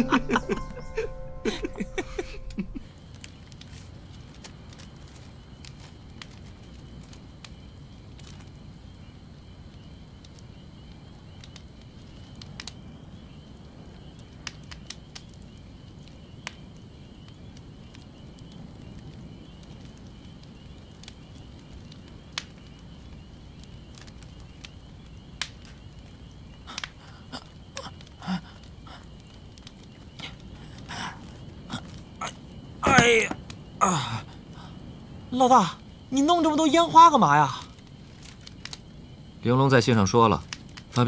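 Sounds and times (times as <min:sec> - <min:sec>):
insects chirring: 0:00.0 - 0:41.0
sharp crackles: 0:01.5 - 0:41.0.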